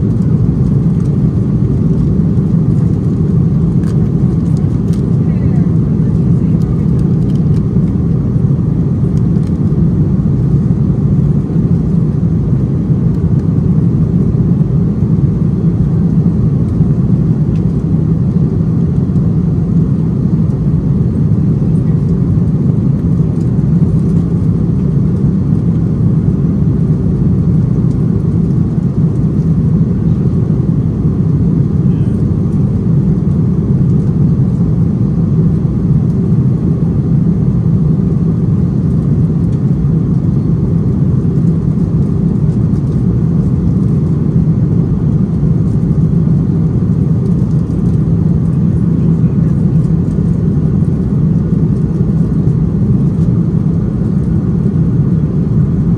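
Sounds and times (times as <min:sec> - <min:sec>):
jet engine and airflow rumble: 0:00.0 - 0:55.9.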